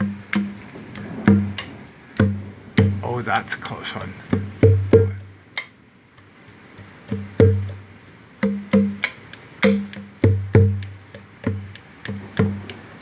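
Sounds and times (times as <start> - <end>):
conga drum played by hand: 0.0 - 3.1, 4.2 - 13.0.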